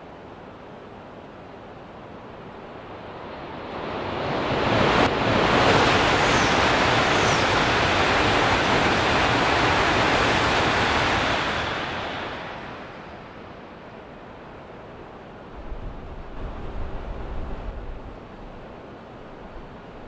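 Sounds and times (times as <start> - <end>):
train passing at high speed: 0.0 - 20.0.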